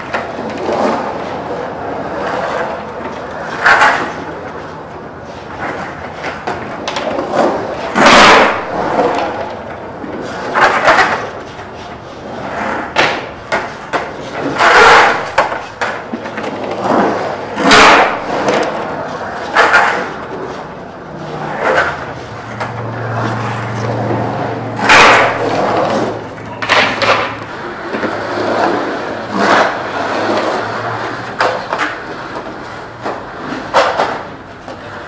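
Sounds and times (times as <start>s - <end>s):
skateboard trucks grinding on coping: 0.0s - 35.0s
skateboard wheels rushing on concrete: 0.0s - 35.0s.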